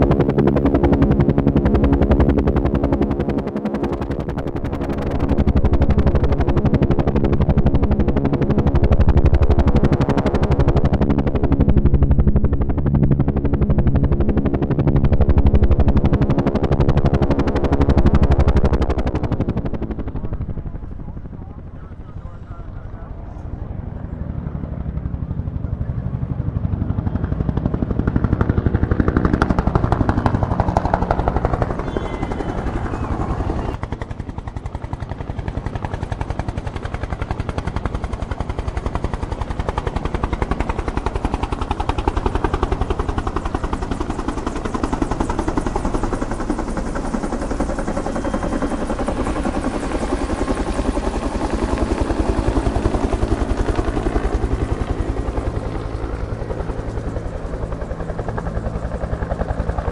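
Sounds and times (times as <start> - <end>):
rc helicopter rotor whir: 0.0 - 59.9.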